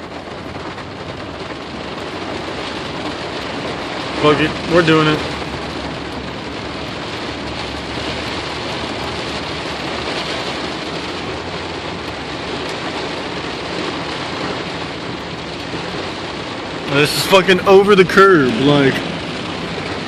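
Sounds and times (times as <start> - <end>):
car driving through floodwater: 0.0 - 20.0
heavy rain on a car: 0.0 - 20.0.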